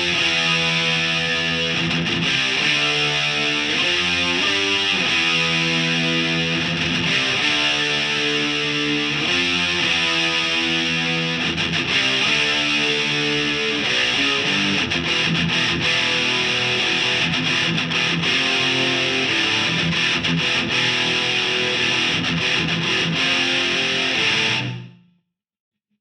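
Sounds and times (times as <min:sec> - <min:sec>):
distorted electric guitar riffs: 0:00.0 - 0:25.0.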